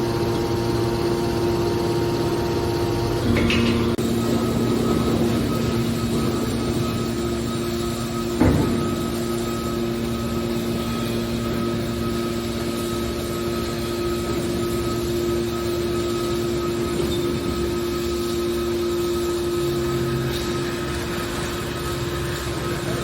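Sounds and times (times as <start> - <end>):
hydraulic machine hum: 0.0 - 23.0.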